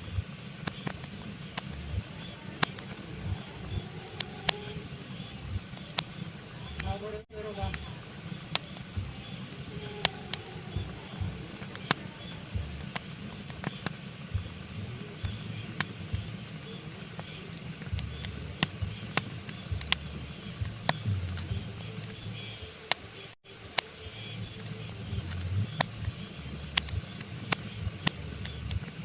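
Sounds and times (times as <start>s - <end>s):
logs crackling in fireplace: 0.0s - 29.0s.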